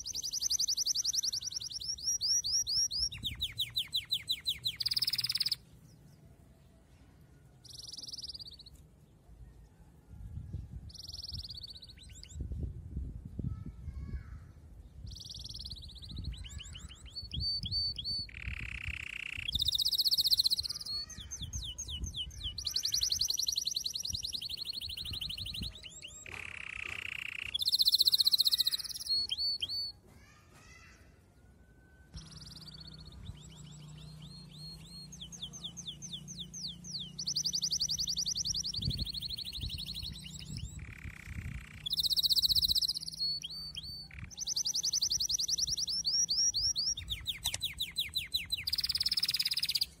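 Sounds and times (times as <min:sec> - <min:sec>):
songbird trilling: 0:00.0 - 0:05.6, 0:07.6 - 0:08.8, 0:10.9 - 0:12.4, 0:15.0 - 0:30.0, 0:32.2 - 0:50.0.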